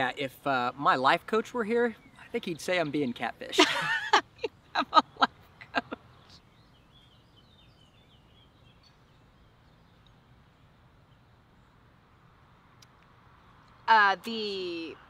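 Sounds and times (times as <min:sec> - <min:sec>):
faint birdsong warble: 0:00.1 - 0:13.9.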